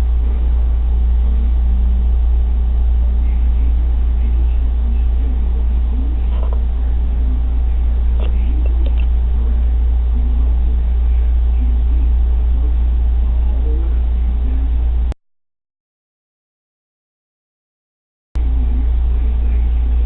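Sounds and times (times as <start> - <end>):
faint indistinct voices: 0.0 - 15.1, 18.4 - 20.0
steady low hum: 0.0 - 15.2, 18.4 - 20.0.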